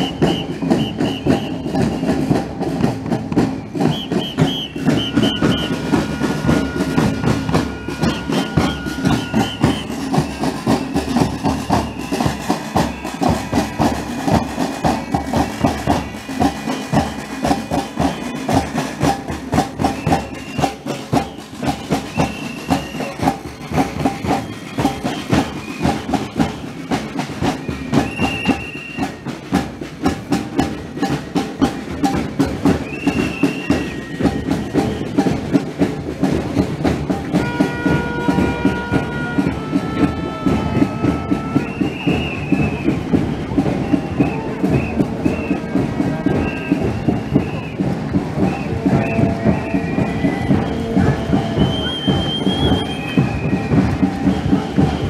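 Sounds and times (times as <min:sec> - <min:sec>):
high whistle-like tones: 0:00.0 - 0:02.6, 0:03.3 - 0:29.6, 0:32.1 - 0:35.6, 0:41.0 - 0:55.0
marching drums: 0:00.0 - 0:55.0.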